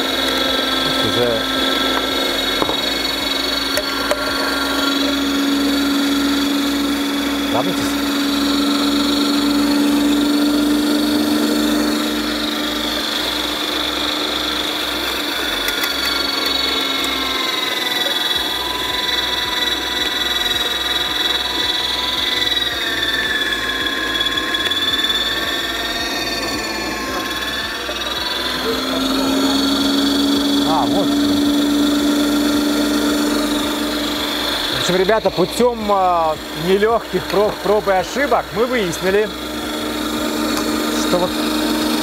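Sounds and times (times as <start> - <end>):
electric meat grinder motor running: 0.0 - 42.0.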